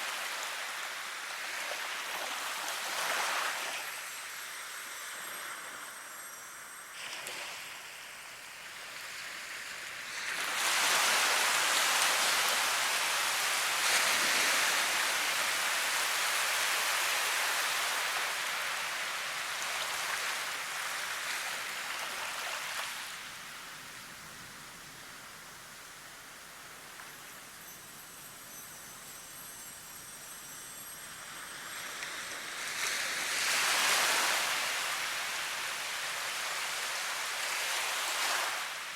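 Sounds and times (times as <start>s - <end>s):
rushing water hiss: 0.0s - 38.9s.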